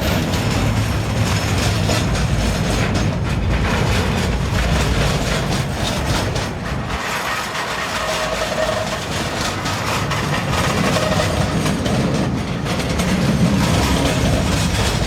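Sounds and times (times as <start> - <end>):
freight train rolling past: 0.0 - 15.0
wheels clicking over rail joints: 0.0 - 15.0.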